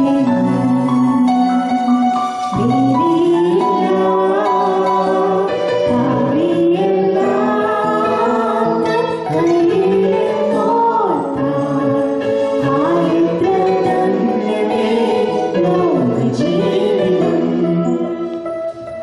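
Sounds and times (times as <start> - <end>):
woman and man singing: 0.0 - 18.4
instrumental backing music: 0.0 - 19.0.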